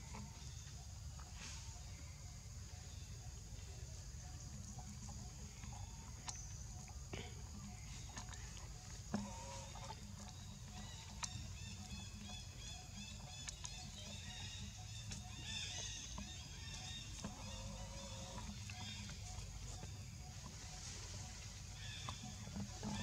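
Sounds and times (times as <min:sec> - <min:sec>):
birds calling: 0:01.8 - 0:23.0.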